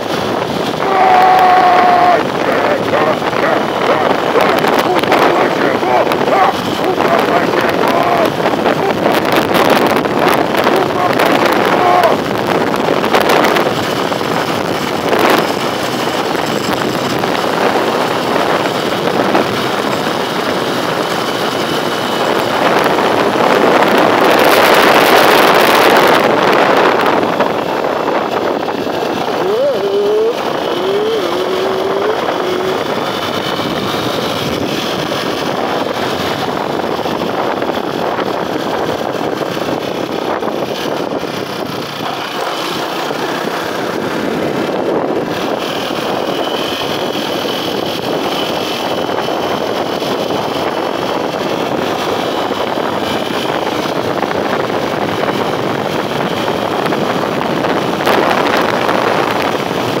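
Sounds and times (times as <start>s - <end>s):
motorcycle engine: 0.0s - 60.0s
wind over microphone: 0.0s - 60.0s.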